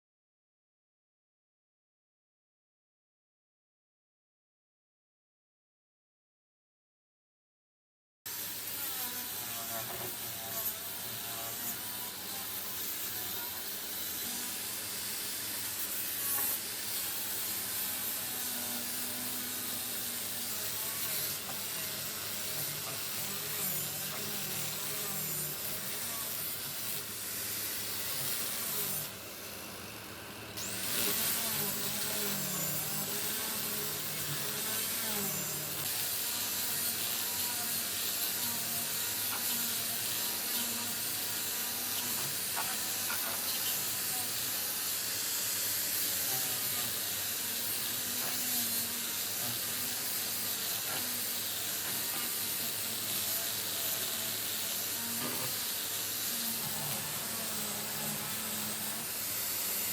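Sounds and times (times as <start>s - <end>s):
power tool hissing: 8.3s - 59.9s.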